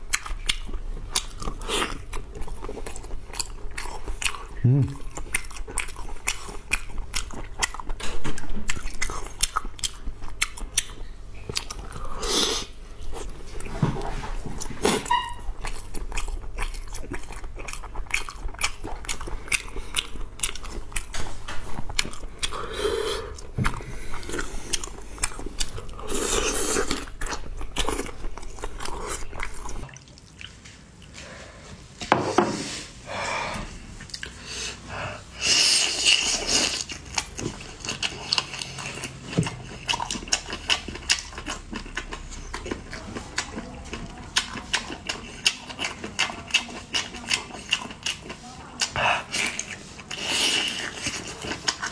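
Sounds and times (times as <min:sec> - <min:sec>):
person chewing sausage: 0:00.0 - 0:31.2, 0:33.5 - 0:51.9.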